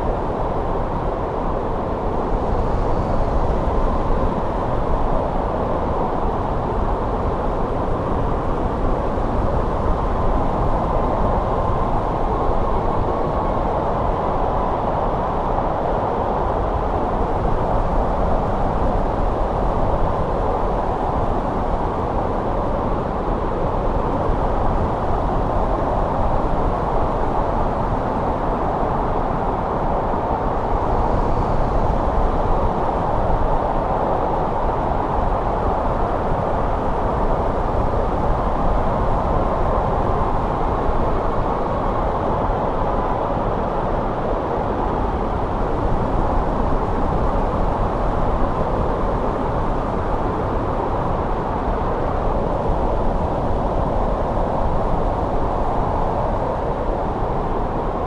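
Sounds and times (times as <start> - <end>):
snowstorm wind blowing: 0.0 - 58.0.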